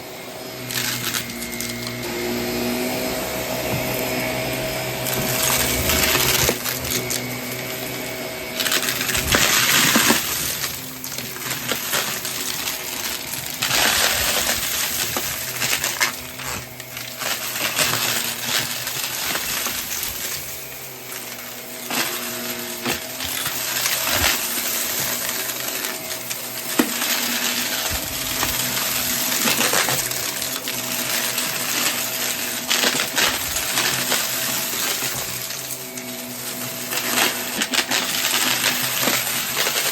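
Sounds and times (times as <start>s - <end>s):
vacuum cleaner running: 0.0s - 39.9s
debris rattling through hose: 0.4s - 39.9s.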